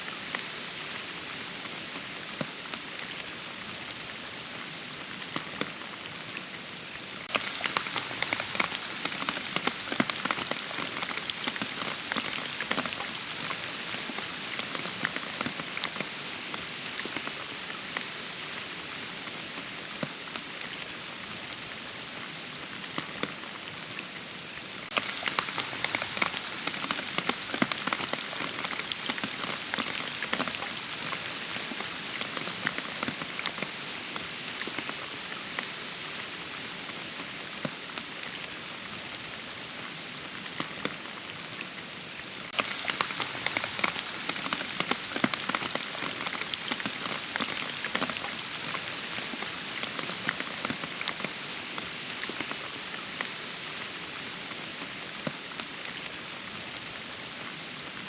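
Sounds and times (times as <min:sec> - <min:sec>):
close raindrops striking: 0:00.0 - 0:58.0
steady rain hiss: 0:00.0 - 0:58.0.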